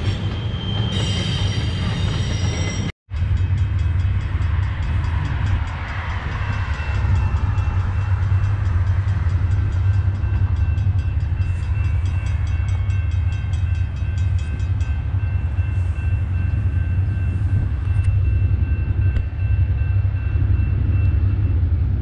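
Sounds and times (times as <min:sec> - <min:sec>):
crossing bell ringing: 0:00.0 - 0:21.6.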